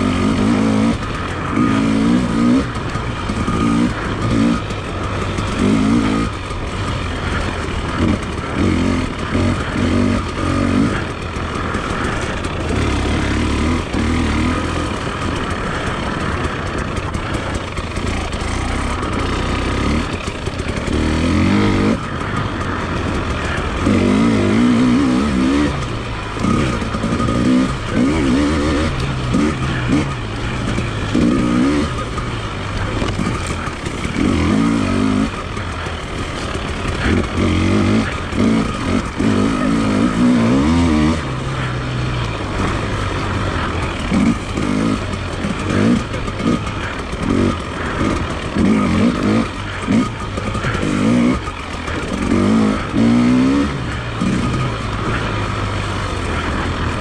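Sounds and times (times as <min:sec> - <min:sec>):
constant rushing noise: 0:00.0 - 0:57.0
motorcycle engine revving: 0:00.0 - 0:57.0.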